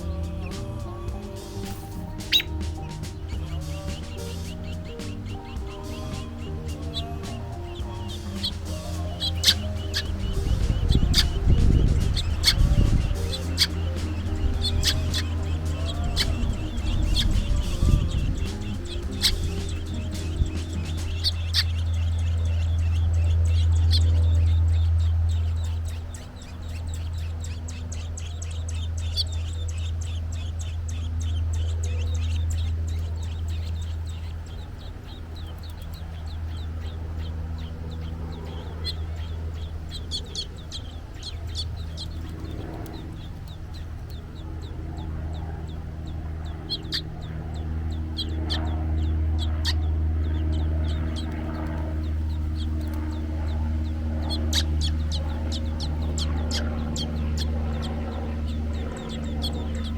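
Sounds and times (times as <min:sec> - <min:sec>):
low rumble: 0:00.0 - 0:59.9
robin chirping: 0:00.0 - 0:59.9.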